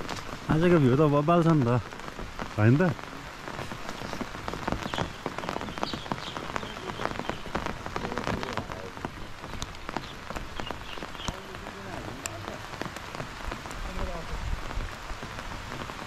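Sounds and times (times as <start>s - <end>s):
rain falling close by: 0.0s - 16.0s.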